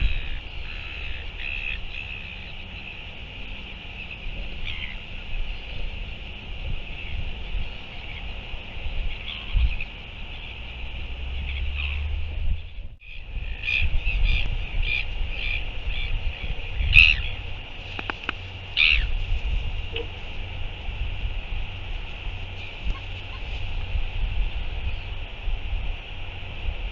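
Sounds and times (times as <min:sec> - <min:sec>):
gulls calling: 0:00.0 - 0:26.9
wind rumbling on microphone: 0:00.0 - 0:26.9.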